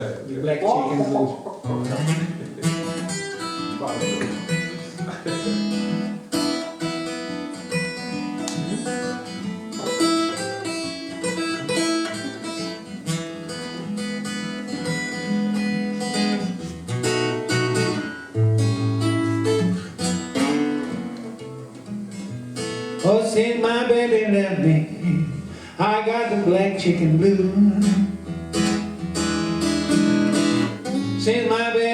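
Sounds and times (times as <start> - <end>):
blues guitar playing: 0.6 - 31.9.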